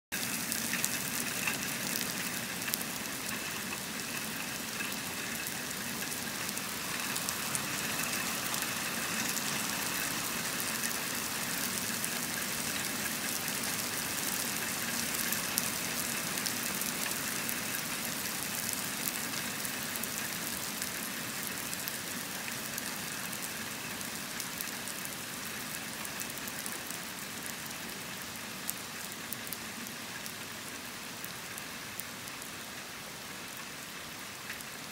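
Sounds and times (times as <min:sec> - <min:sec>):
heavy rain hitting ground: 0:00.1 - 0:34.9.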